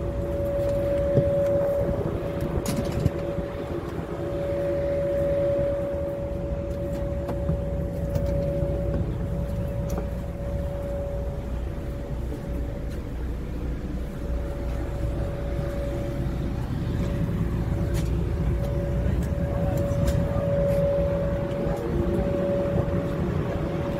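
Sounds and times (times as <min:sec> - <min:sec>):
bus engine idling: 0:00.0 - 0:23.9
constant humming tone: 0:00.0 - 0:23.9.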